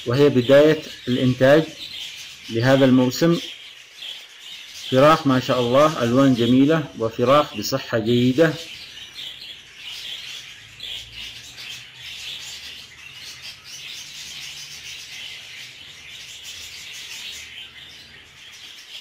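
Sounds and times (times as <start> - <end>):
chicks chirping: 0.0 - 19.0.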